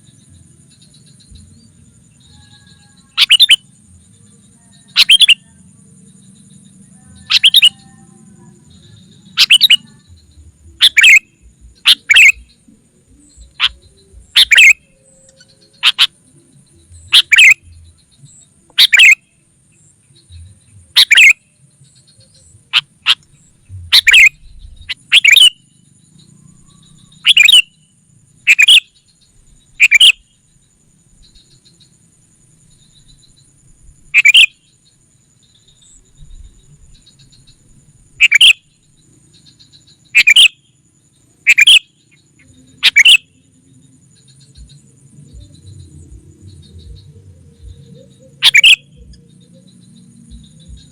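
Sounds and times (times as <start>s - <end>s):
bird chirping calls: 0.0s - 50.9s.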